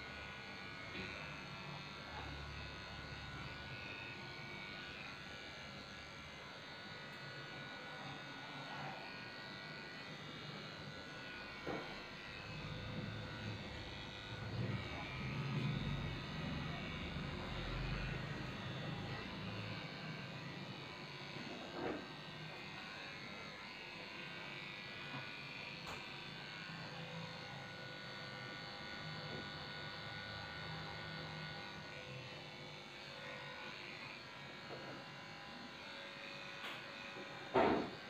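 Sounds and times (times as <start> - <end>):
electric clippers running: 0.0 - 38.0.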